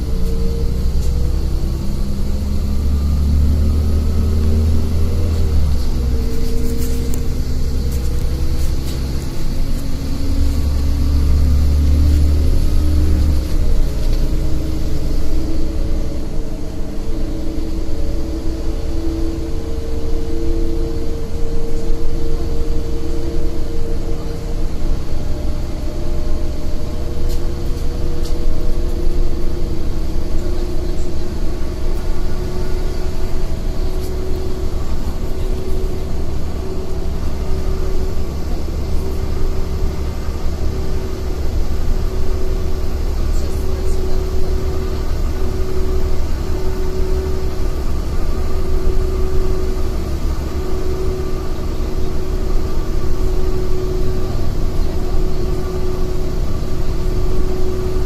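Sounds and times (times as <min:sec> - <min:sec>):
bus engine and road rumble: 0:00.0 - 0:58.0
constant whine: 0:00.0 - 0:58.0.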